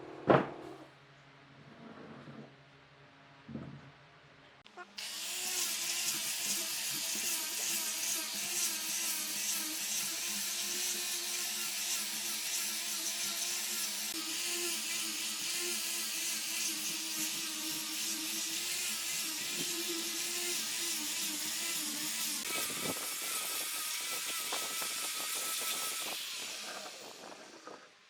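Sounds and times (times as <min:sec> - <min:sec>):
power tool cutting wood: 0:05.0 - 0:28.0.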